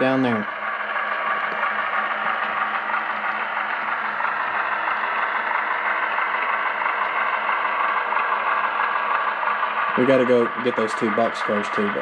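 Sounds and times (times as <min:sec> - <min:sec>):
model locomotive humming: 0:00.0 - 0:12.0.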